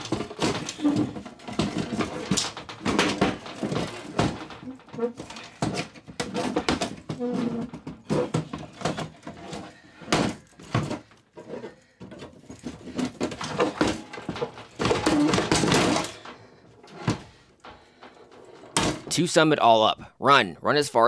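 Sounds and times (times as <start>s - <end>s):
metal clanks and scrapes: 0.0s - 19.2s.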